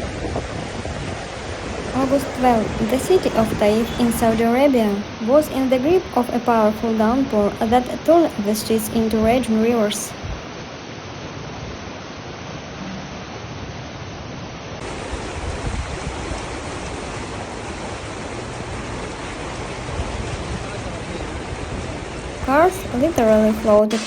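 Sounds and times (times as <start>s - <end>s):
floodwater rushing: 0.0s - 10.5s, 14.8s - 24.0s.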